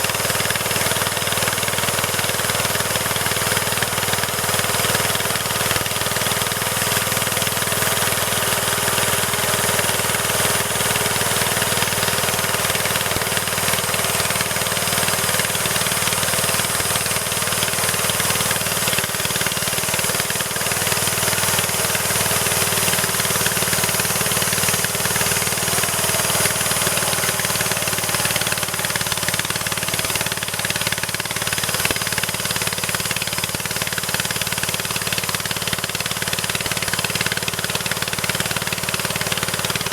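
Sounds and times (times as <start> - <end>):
machine engine running roughly: 0.0 - 39.9.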